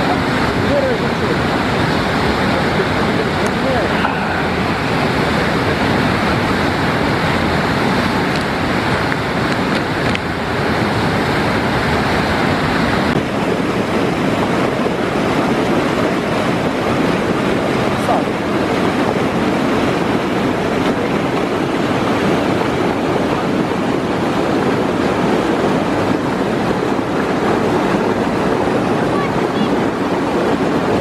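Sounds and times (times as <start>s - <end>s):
waterfall rushing: 0.0s - 31.0s
white-water stream rushing: 0.0s - 31.0s.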